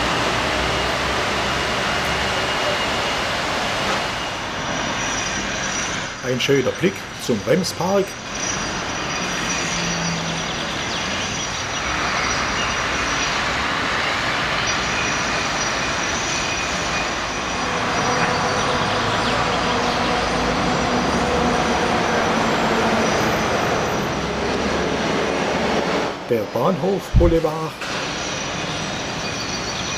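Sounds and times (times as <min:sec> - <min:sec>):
city traffic noise: 0:00.0 - 0:29.9
rail noise: 0:00.0 - 0:29.9.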